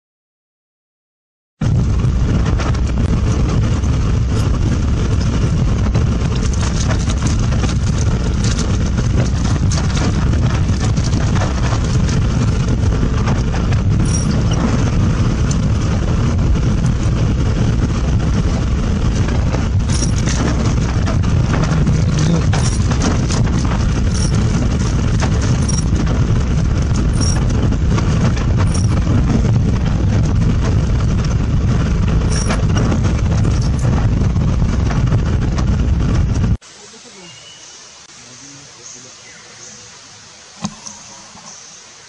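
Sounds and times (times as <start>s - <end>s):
vehicle engine and tyre rumble: 1.6s - 36.8s.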